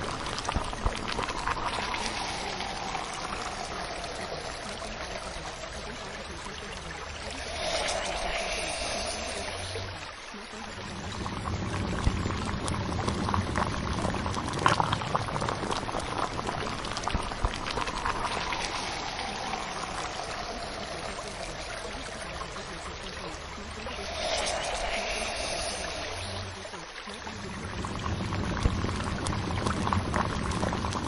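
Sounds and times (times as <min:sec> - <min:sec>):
water bubbling and pouring: 0:00.0 - 0:31.0
water splashes and drips: 0:00.0 - 0:31.0.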